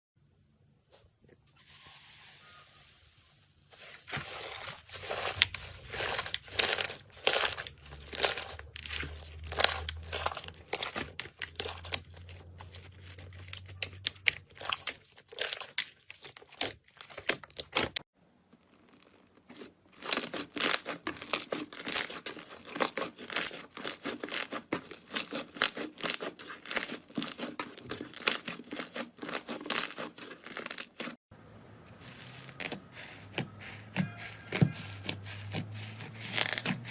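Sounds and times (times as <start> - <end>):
slime crackling and popping: 5.1 - 12.0, 13.0 - 31.2, 32.2 - 36.9.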